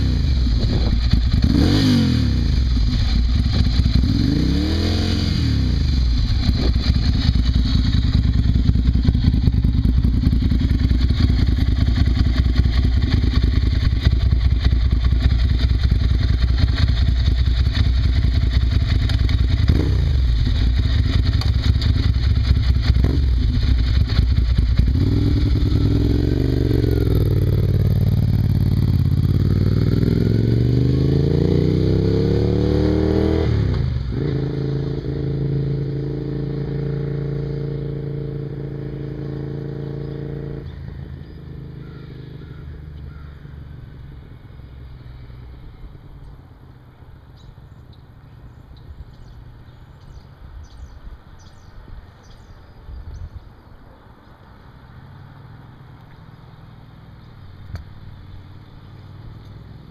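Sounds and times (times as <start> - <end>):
motorcycle accelerating: 0.0 - 50.3, 54.6 - 59.9.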